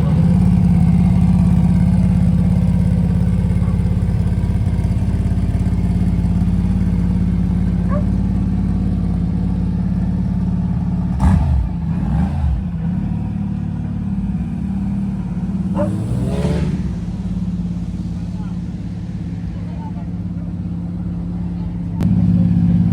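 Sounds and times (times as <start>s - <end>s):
race car engine idling: 0.0s - 22.9s.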